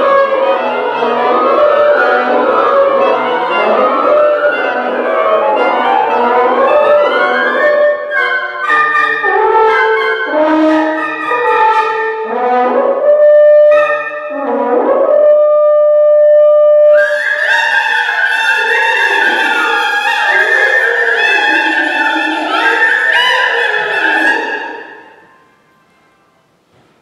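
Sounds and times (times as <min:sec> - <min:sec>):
woodwind quintet playing: 0:00.0 - 0:25.5.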